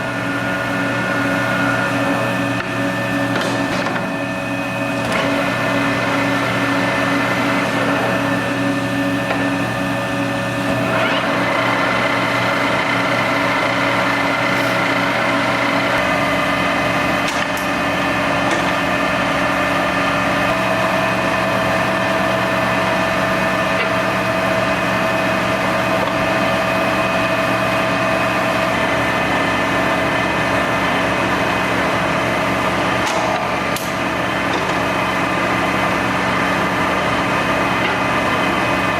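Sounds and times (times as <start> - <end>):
lathe running with mechanical whine: 0.0 - 38.9.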